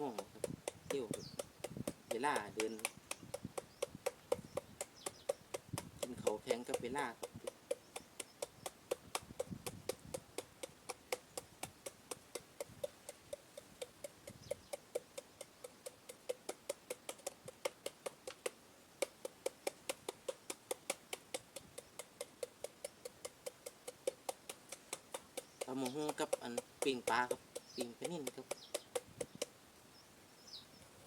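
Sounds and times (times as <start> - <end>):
pestle pounding in mortar: 0.0 - 29.5.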